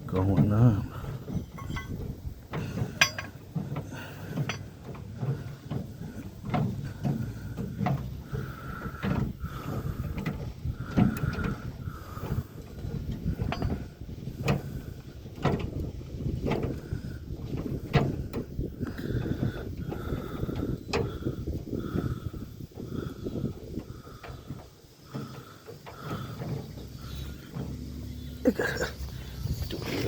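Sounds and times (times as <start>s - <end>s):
winch clicks and clunks: 0.0s - 30.0s
winch squeaks: 0.2s - 30.0s.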